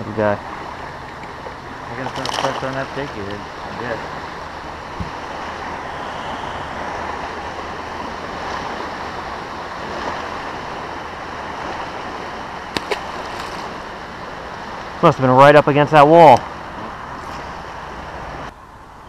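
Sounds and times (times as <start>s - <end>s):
wind and water noise: 0.0s - 19.0s.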